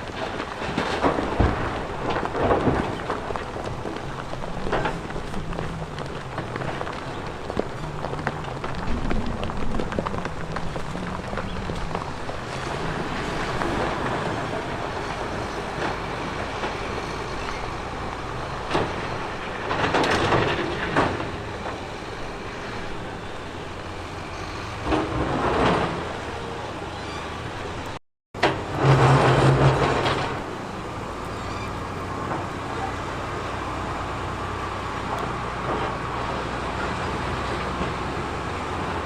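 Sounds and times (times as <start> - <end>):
diesel machinery engine running: 0.0 - 39.0
machinery clatter: 0.0 - 39.0.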